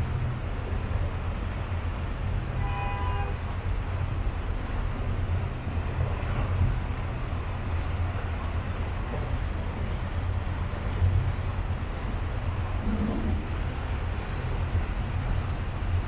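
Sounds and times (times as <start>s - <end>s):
boat engine rumble: 0.0s - 16.0s.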